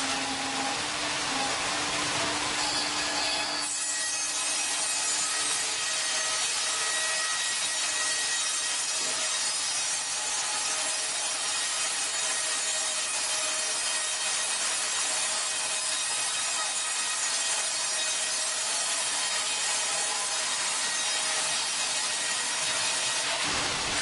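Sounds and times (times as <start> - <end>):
band saw cutting log: 0.0 - 24.0.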